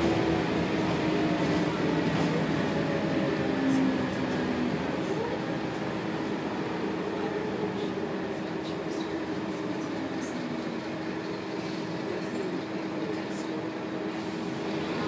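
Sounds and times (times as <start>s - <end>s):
bus engine hum: 0.0s - 15.0s
road noise: 0.0s - 15.0s.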